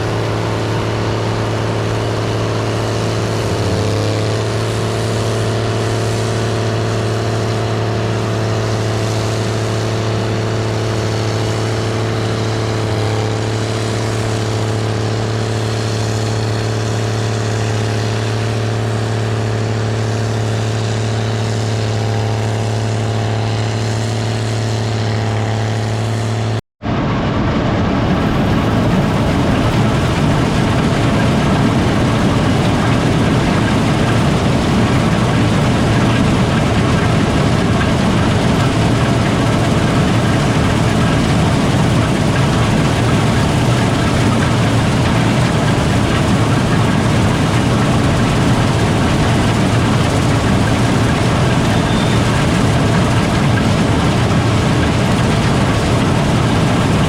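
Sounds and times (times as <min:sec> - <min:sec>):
combine harvester drone: 0:00.0 - 0:57.0
rough rumble: 0:00.0 - 0:57.0.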